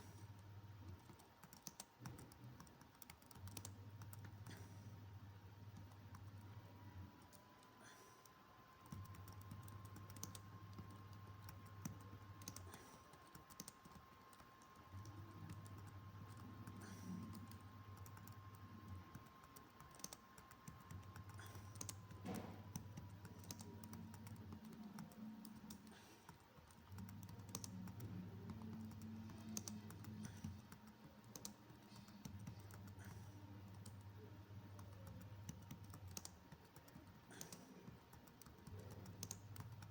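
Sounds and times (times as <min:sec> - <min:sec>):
typing on computer keyboard: 0:00.8 - 0:05.0, 0:05.7 - 0:06.5, 0:07.2 - 0:39.9.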